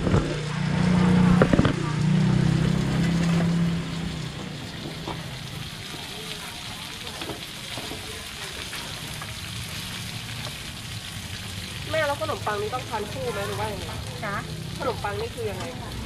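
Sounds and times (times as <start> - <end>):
batter sizzling in hot oil: 0.2 - 16.0.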